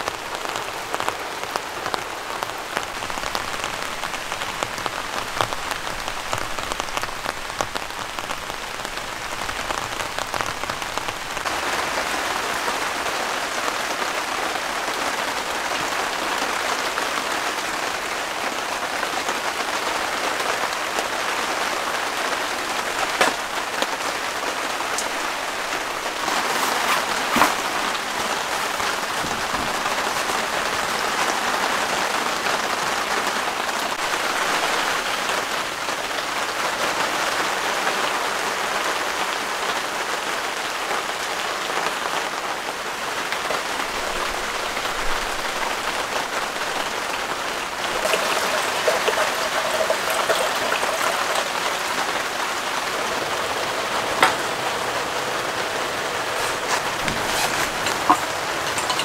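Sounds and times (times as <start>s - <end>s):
rain on a tent: 0.0s - 59.0s.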